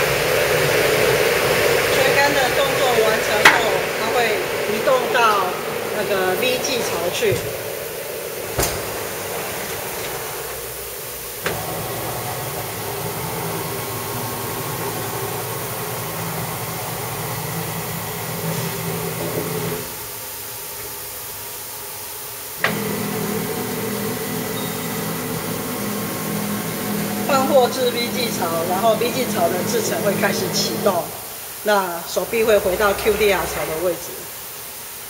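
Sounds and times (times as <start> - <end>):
cleaning machine hum and hiss: 0.0 - 35.0.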